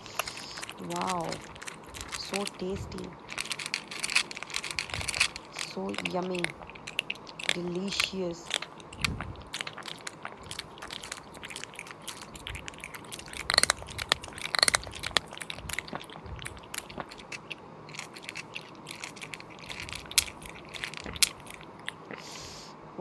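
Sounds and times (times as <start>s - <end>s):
chewing and crunching: 0.0s - 22.6s.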